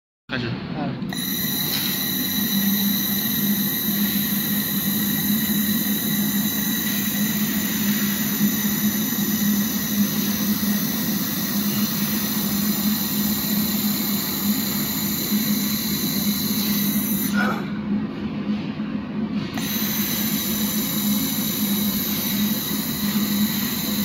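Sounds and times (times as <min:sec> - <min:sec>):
welding machine hum and hiss: 0:01.1 - 0:24.0.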